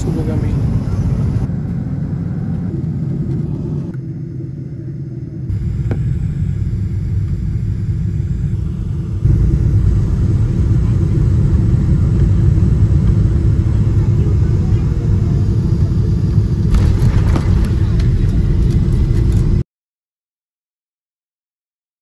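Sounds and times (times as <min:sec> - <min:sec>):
jet engine and airflow rumble: 0:00.0 - 0:19.6.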